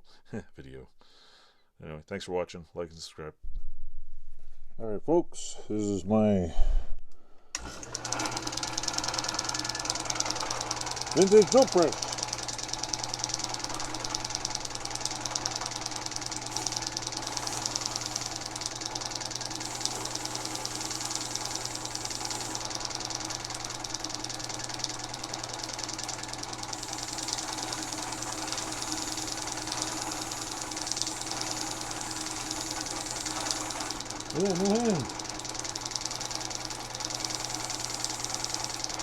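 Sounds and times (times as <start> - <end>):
drill press motor hum and clatter: 7.5 - 39.0.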